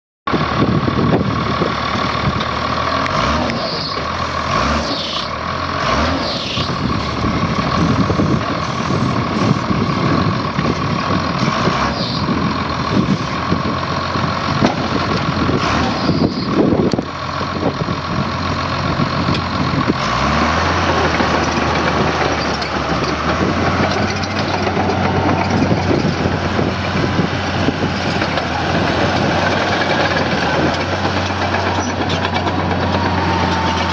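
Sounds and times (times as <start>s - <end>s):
bulldozer diesel engine running: 0.3s - 33.9s.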